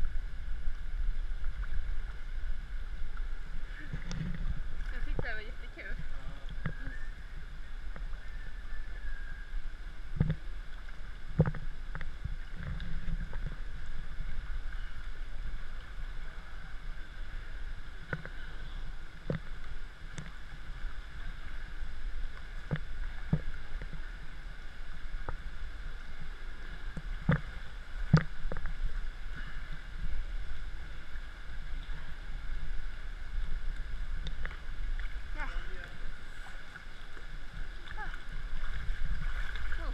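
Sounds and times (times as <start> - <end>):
water splashing and lapping: 0.0 - 9.0, 9.9 - 39.9
water rushing: 0.0 - 39.9.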